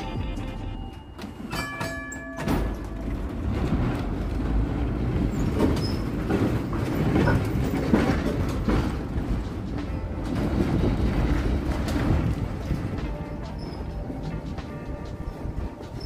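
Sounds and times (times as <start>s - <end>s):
streetcar wheels rumbling: 0.0s - 16.0s
clicks and knocks over track: 1.0s - 14.8s.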